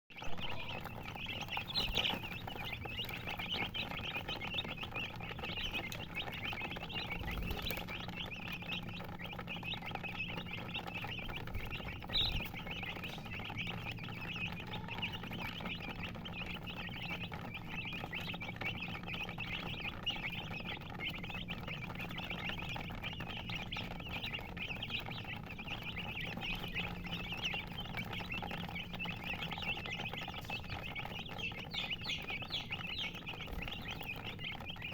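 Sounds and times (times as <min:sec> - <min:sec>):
chicks peeping and chirping: 0:00.1 - 0:34.9.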